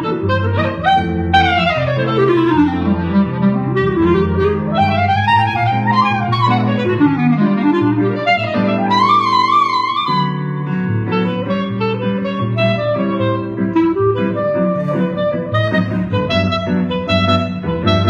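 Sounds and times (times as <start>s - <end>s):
jazz clarinet solo: 0.0s - 18.0s
small jazz band with bass: 0.0s - 18.0s.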